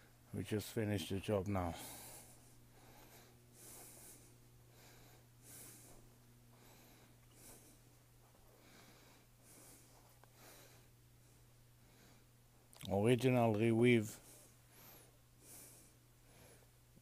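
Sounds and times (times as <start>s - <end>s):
low steady hum: 0.0s - 17.0s
faint breaths: 1.6s - 12.7s, 14.0s - 17.0s.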